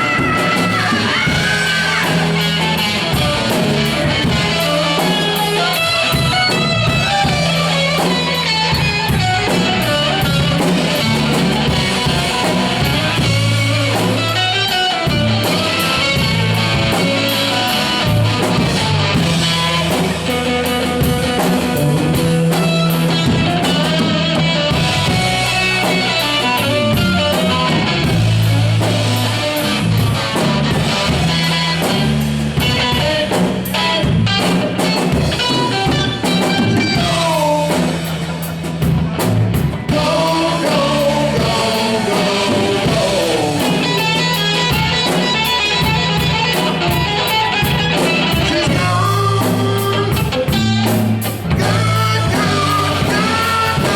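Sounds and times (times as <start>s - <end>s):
drum kit: 0.0s - 53.9s
guitar lines: 0.0s - 53.9s
walking bass line: 0.0s - 53.9s.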